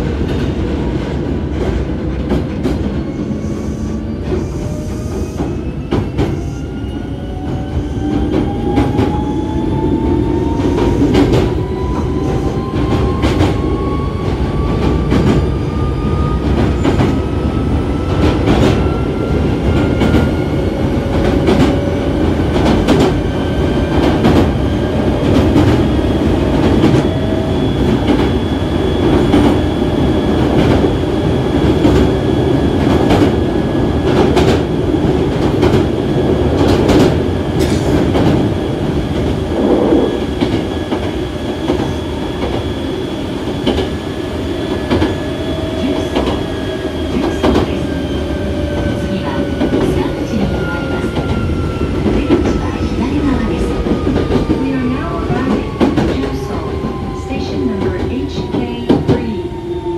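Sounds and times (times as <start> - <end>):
train rumble from inside: 0.0 - 59.9.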